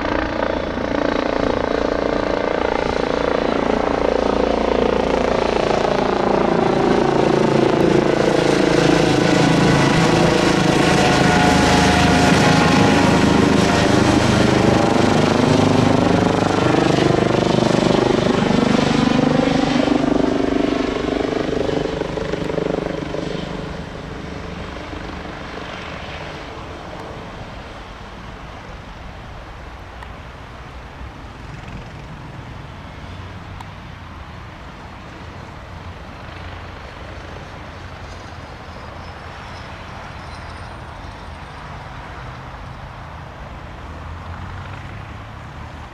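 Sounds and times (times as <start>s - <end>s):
helicopter passing: 0.0s - 45.9s.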